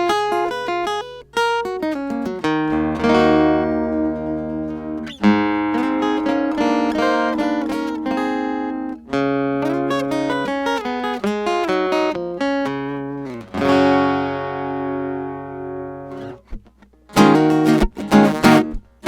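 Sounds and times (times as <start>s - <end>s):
acoustic guitar picking: 0.0s - 19.0s
strummed guitar chords: 0.0s - 19.0s.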